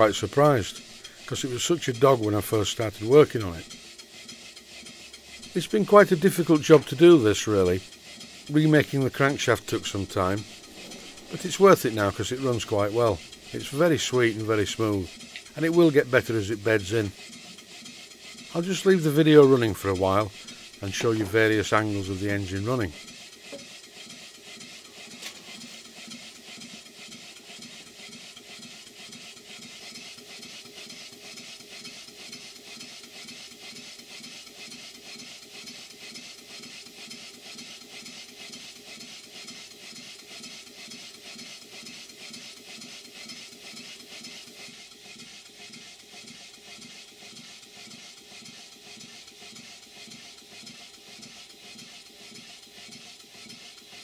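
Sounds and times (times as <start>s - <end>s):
steam engine running: 0.0s - 54.0s
steam hiss: 0.0s - 54.0s.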